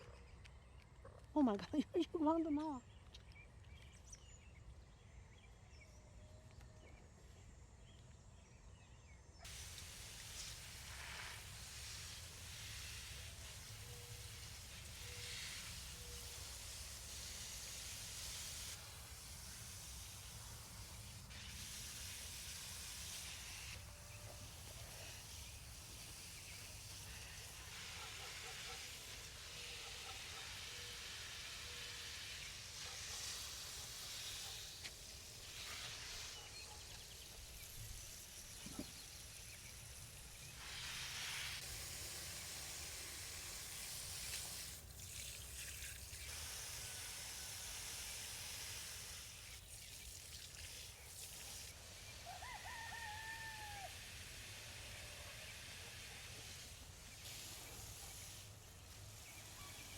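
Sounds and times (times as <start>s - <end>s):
outdoor hiss: 9.3s - 59.9s.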